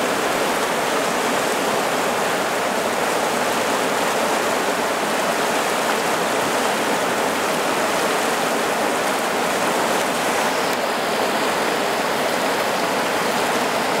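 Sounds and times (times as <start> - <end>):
river rapids rushing over rocks: 0.0 - 14.0.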